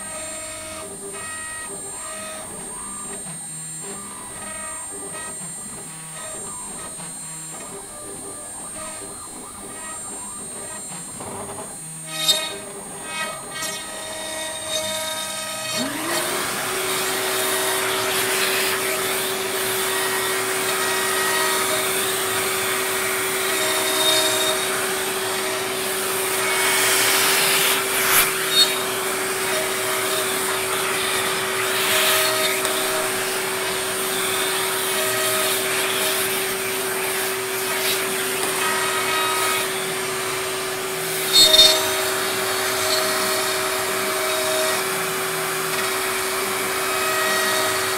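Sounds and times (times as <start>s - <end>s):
router machine tones: 0.0s - 47.9s
vacuum cleaner whine: 0.0s - 47.9s.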